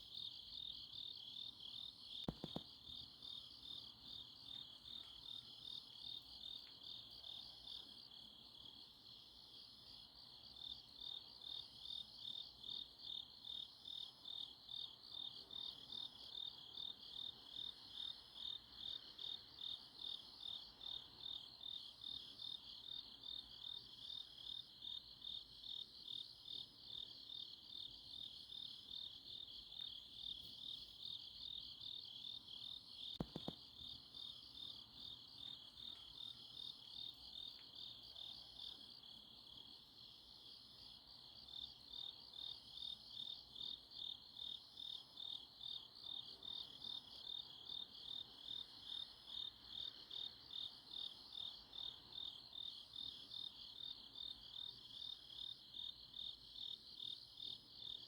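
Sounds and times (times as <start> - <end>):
crickets chirping: 0.0 - 58.0
faint high insect call: 0.0 - 58.0.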